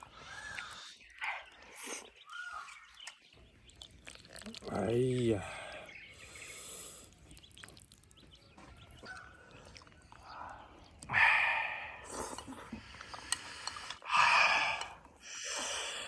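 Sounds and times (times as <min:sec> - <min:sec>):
quiet chewing: 0:00.0 - 0:15.7.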